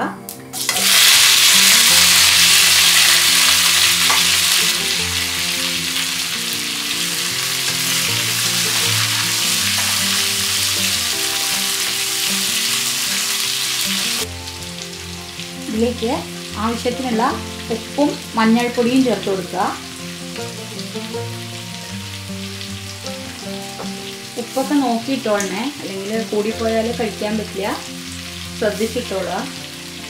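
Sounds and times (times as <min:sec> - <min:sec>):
slices frying in hot oil: 0:00.6 - 0:30.0.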